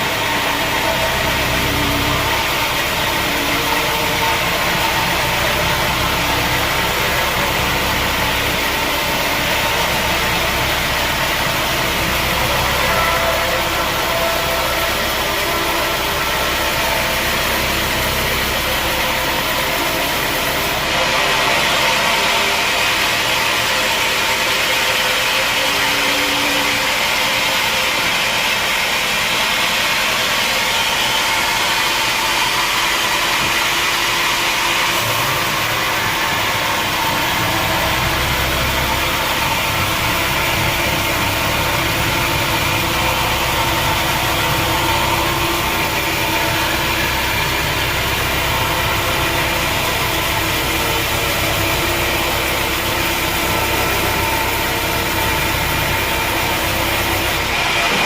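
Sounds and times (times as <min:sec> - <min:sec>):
sawmill machinery din: 0:00.0 - 0:58.0.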